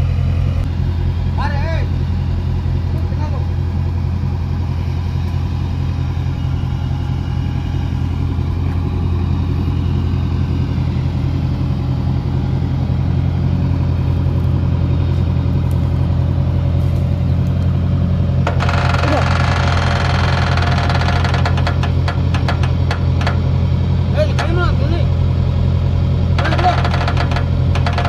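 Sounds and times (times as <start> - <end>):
diesel engine running at low revs: 0.0 - 28.0.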